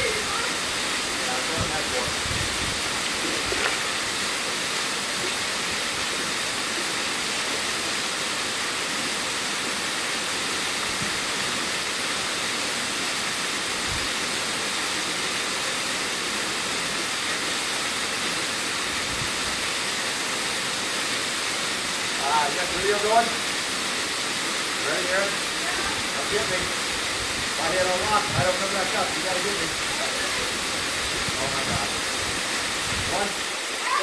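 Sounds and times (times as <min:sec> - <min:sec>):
waterfall rushing into pool: 0:00.0 - 0:34.0.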